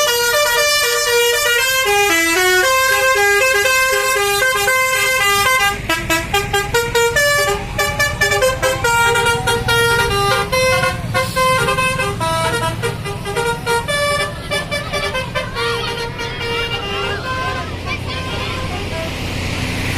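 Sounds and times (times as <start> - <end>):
bus musical horn tune: 0.0 - 19.3.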